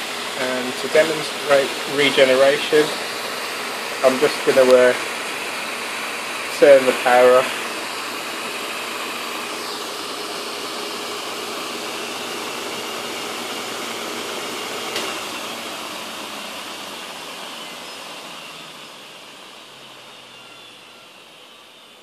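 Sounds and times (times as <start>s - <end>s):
hard drive spinning with whine: 0.0s - 22.0s.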